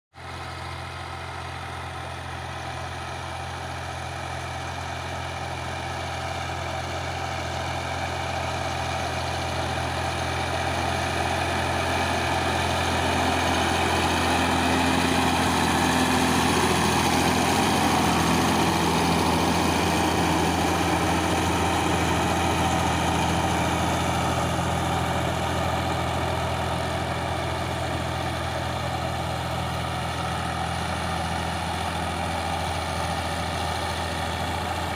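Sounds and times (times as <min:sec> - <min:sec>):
diesel tiller engine droning: 0:00.2 - 0:34.9.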